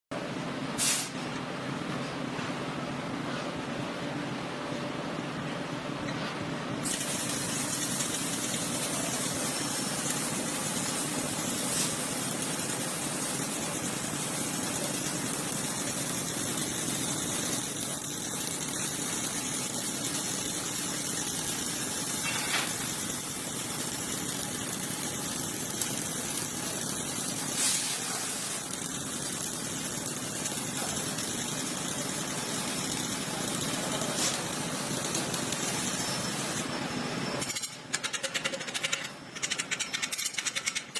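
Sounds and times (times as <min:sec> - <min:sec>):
arc welder hissing and crackling: 0:00.8 - 0:01.4, 0:06.8 - 0:40.9.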